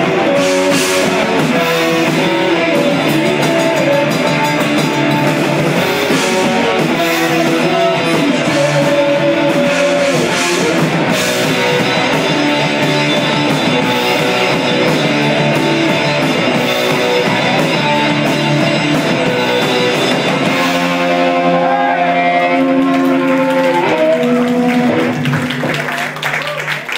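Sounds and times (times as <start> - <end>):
rock band playing loudly: 0.0 - 26.9.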